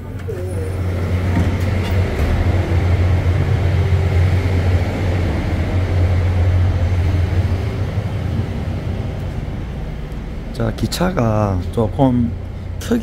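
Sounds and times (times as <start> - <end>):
passenger train rumble: 0.0 - 13.0.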